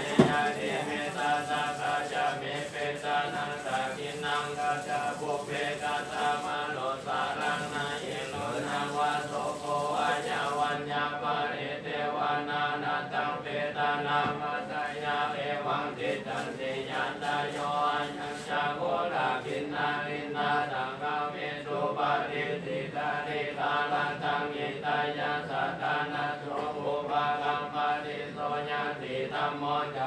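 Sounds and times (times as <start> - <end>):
voices chanting verses: 0.0 - 30.0.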